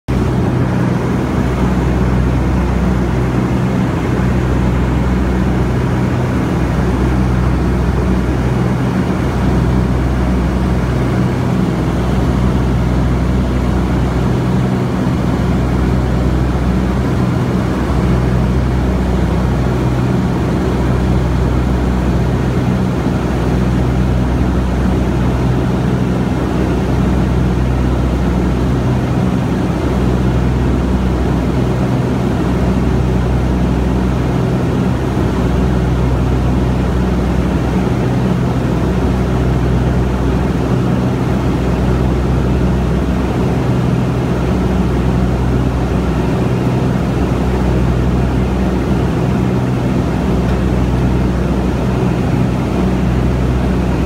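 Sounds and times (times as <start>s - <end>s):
propeller airplane engine drone: 0.1s - 54.0s.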